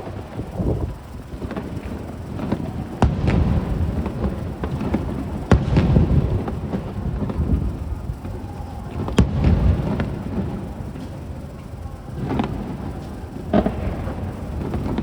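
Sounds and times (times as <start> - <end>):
firework bangs: 0.0 - 15.0
low rumble of bursts: 0.0 - 15.0.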